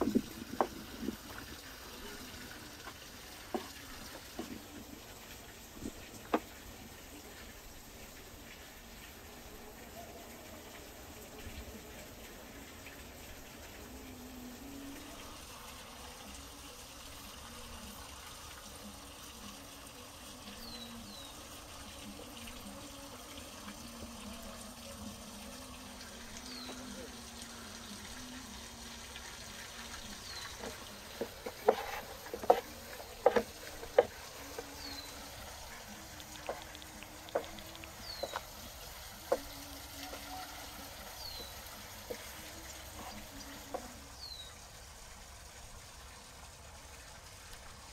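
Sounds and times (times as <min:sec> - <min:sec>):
running water trickle: 0:00.0 - 0:47.9.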